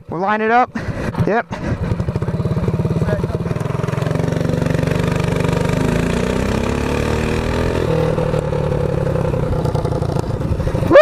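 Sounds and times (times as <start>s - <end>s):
mini bike engine accelerating: 1.2s - 11.0s.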